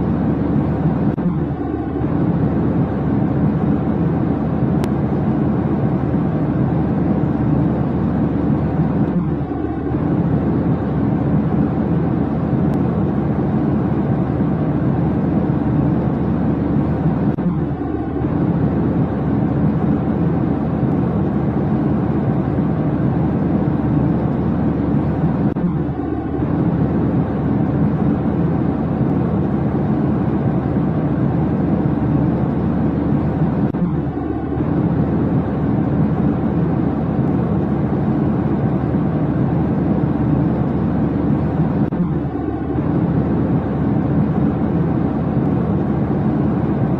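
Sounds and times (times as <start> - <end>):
airliner cabin roar: 0.0 - 46.9.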